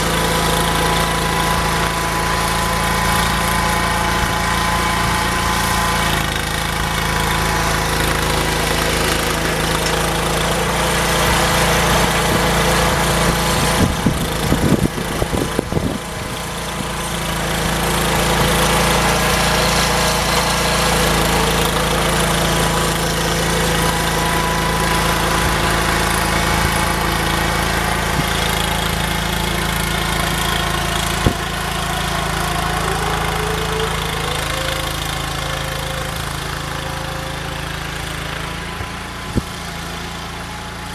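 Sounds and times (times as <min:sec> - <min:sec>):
small tractor engine running: 0:00.0 - 0:40.9.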